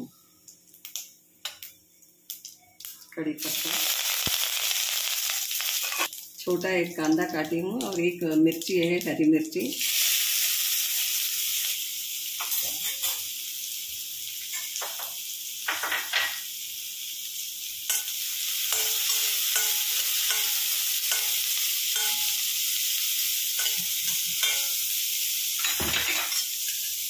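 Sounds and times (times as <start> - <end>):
onion sizzling in hot oil: 0.4 - 27.0.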